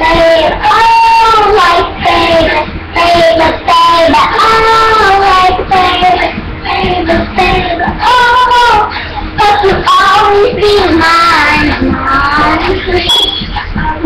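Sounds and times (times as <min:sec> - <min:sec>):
child singing: 0:00.0 - 0:14.0.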